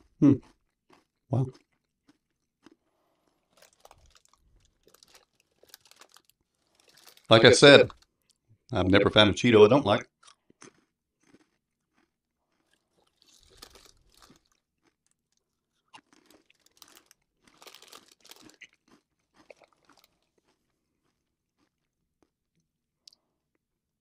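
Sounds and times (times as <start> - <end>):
crunchy snack chewing: 0.0 - 8.4, 10.1 - 23.2.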